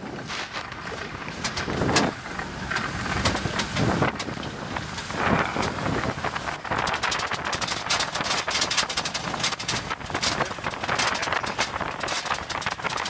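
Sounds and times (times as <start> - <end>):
vehicle rattling over rocky track: 0.0 - 13.0
wind buffeting microphone: 0.0 - 13.0.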